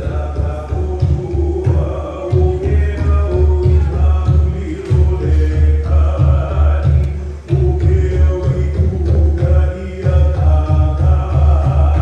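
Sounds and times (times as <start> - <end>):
steady low beat: 0.0 - 12.0
voices singing: 0.0 - 12.0.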